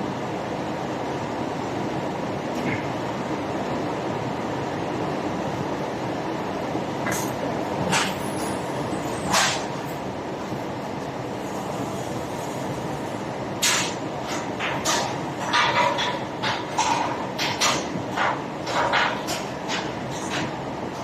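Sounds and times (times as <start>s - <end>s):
factory machinery noise: 0.0s - 21.0s.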